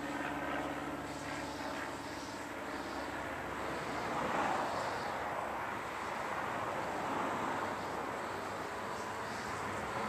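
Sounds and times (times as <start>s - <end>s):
distant engine drone: 0.0s - 10.0s.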